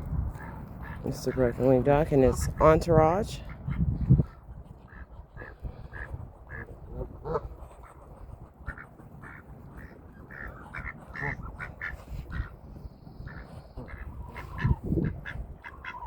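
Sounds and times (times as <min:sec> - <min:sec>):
ducks quacking: 0:00.3 - 0:16.0.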